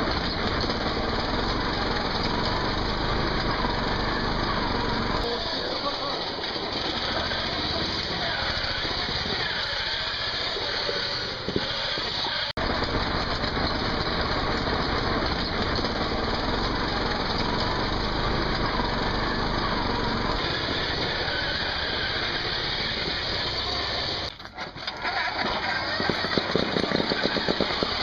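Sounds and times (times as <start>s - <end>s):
riding lawnmower engine running: 0.0s - 28.0s.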